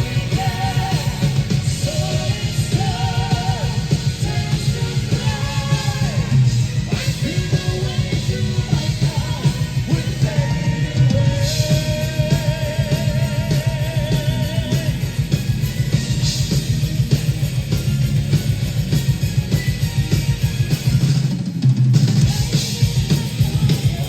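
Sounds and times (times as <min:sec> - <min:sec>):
metal band playing live: 0:00.0 - 0:24.0.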